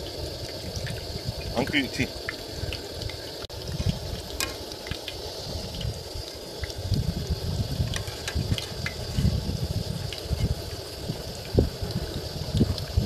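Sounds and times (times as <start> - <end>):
oil bubbling and sizzling: 0.0 - 13.0.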